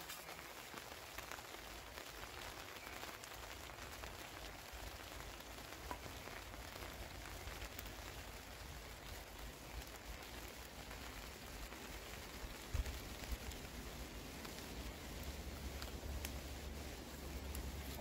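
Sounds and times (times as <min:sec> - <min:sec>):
light rain patter: 0:00.0 - 0:18.0.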